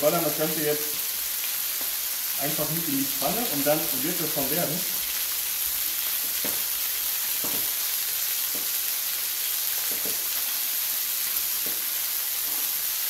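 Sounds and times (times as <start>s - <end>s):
chicken and onion frying: 0.0s - 13.0s.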